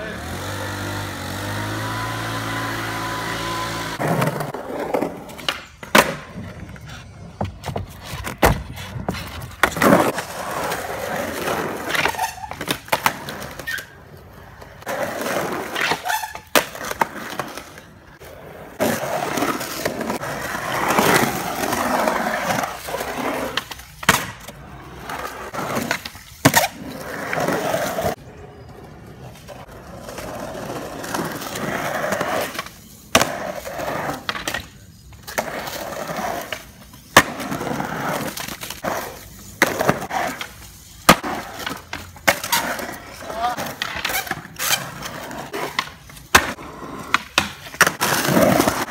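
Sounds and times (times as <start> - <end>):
skateboard wheels rolling on concrete: 0.0 - 48.9
skateboard popping and landing: 0.8 - 28.2, 29.2 - 48.9.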